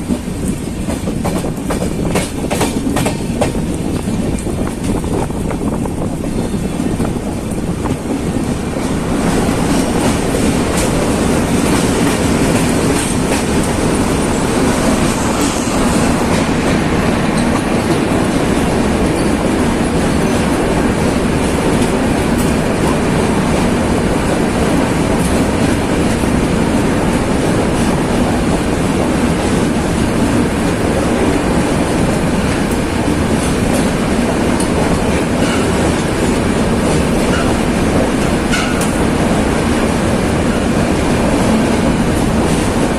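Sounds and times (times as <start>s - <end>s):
clickety-clack of rail joints: 0.0s - 42.9s
train wheels rumbling on rails: 0.0s - 42.9s.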